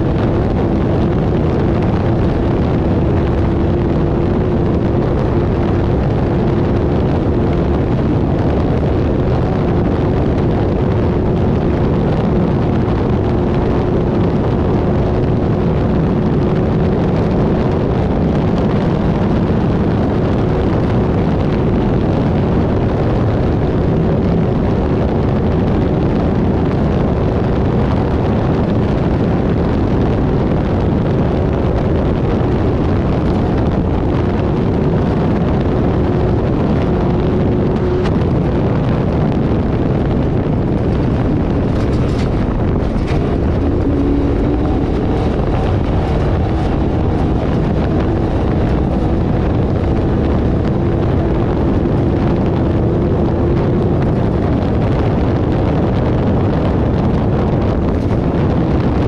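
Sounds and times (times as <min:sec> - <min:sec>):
race vehicle engine droning: 0:00.0 - 0:59.0.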